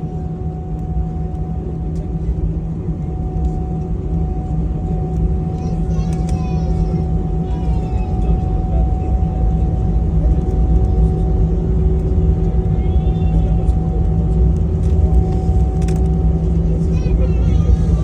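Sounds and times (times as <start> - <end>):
airliner engines rumble and whine: 0.0 - 18.0
faint passenger voices: 0.0 - 18.0.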